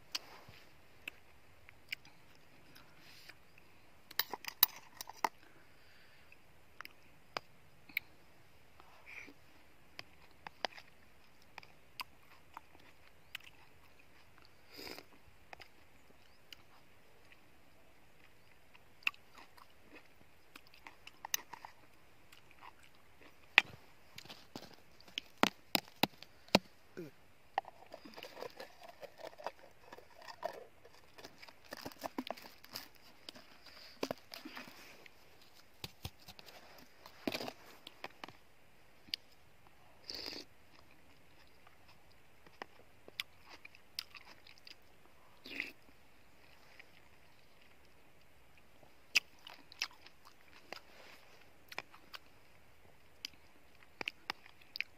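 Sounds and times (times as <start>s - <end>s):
chewing and mouth sounds: 1.0s - 3.4s, 4.1s - 5.6s, 10.0s - 38.4s, 40.0s - 52.3s, 53.0s - 54.9s.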